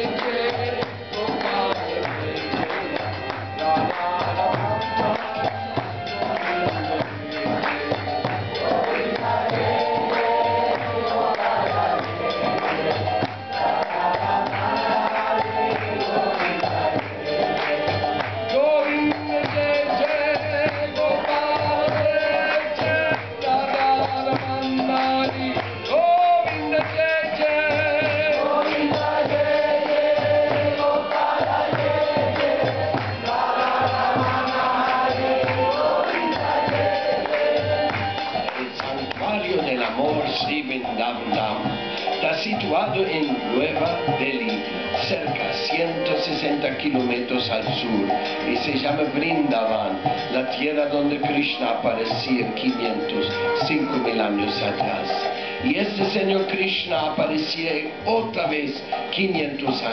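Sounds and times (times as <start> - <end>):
person singing: 0.0 - 56.6
barrel drum beat: 0.0 - 59.9
harmonium: 0.0 - 59.9
jingly percussion: 0.0 - 59.9.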